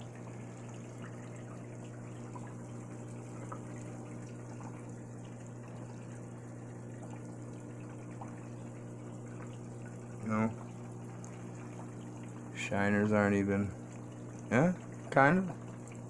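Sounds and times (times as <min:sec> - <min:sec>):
aquarium pump humming: 0:00.0 - 0:16.0
faint water drips: 0:00.0 - 0:16.0
water trickling: 0:00.0 - 0:16.0.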